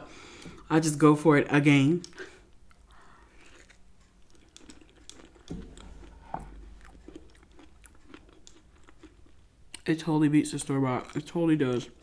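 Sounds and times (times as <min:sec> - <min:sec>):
close-miked chewing: 0:02.0 - 0:12.0.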